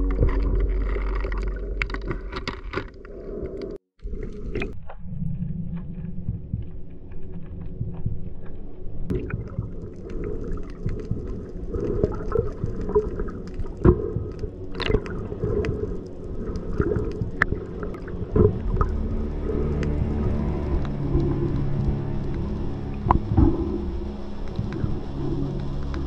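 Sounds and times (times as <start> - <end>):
low rumble of moving water: 0.0 - 26.0
underwater clicks and crackles: 0.0 - 26.0.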